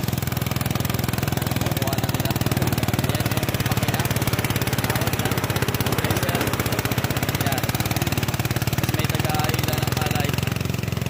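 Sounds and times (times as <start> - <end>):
rice thresher engine running: 0.0 - 11.0.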